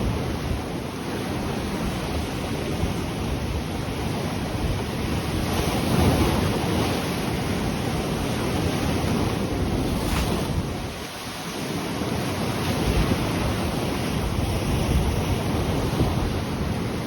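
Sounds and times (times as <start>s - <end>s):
ocean waves breaking on shore: 0.0s - 17.0s
wind buffeting microphone: 0.0s - 17.0s.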